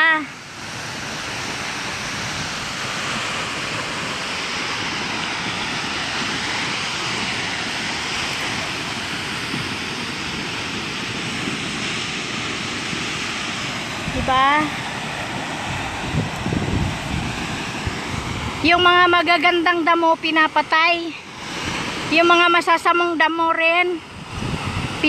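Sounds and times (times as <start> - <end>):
falling water rushing: 0.0 - 25.0.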